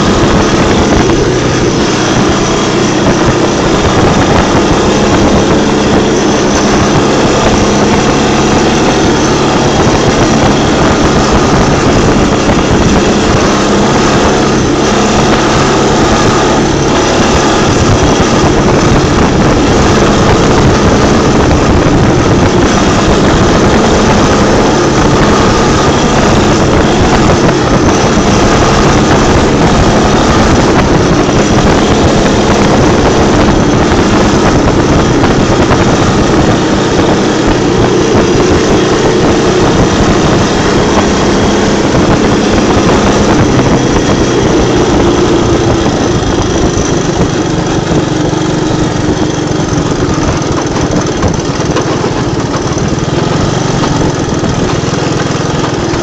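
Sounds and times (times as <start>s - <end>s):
atv engine running: 0.0s - 56.0s
wind rumble on microphone: 0.0s - 56.0s.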